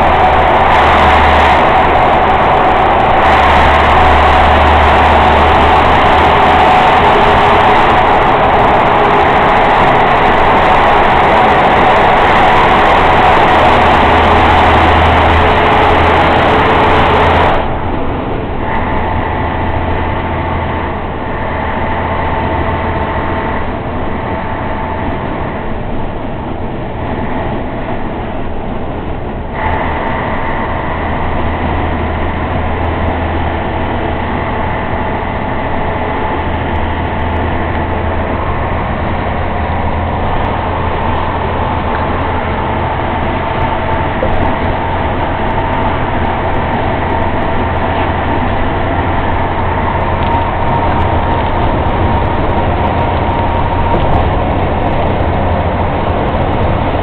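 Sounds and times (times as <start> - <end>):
road noise whine: 0.0 - 57.0
truck diesel engine drone: 0.0 - 57.0.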